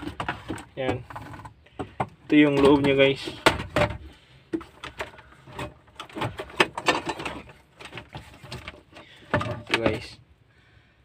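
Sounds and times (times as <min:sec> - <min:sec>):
metal casing clicking and rattling: 0:00.0 - 0:10.1.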